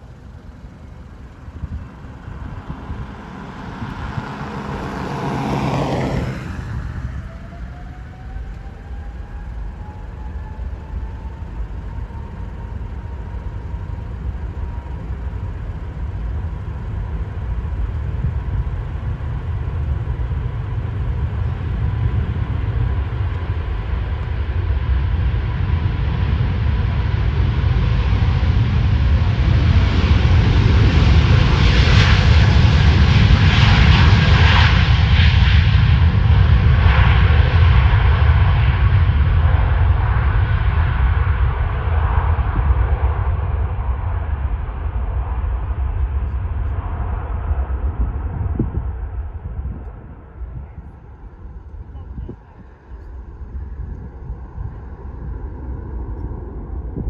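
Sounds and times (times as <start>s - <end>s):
jet engine deep roar: 0.0s - 57.0s
jet engine whine: 0.0s - 57.0s.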